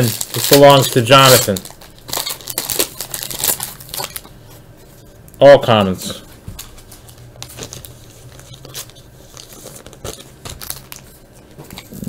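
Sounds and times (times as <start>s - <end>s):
foil wrappers crinkling: 0.0s - 4.3s, 6.1s - 12.0s.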